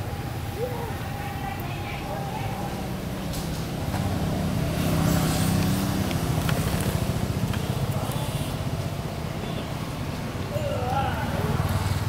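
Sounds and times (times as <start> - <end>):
vehicle engine rumble passing: 0.0 - 12.0.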